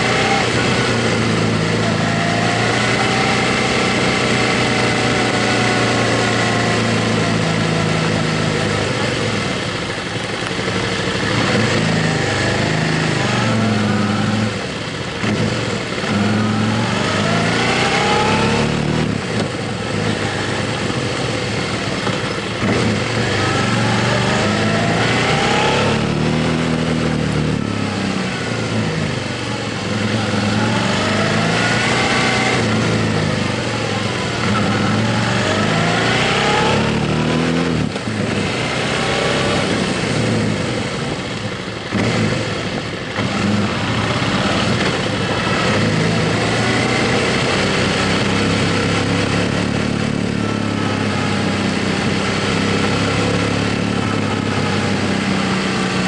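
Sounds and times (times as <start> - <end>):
motorcycle engine shifting gears: 0.0 - 56.0.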